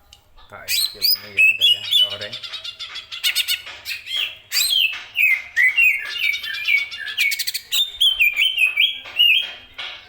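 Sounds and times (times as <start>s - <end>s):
bird singing whistled notes: 0.6s - 2.5s, 3.2s - 9.7s.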